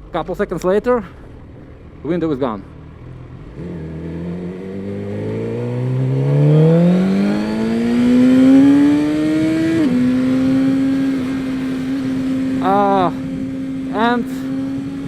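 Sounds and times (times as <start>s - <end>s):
motorcycle engine accelerating: 1.1s - 15.0s.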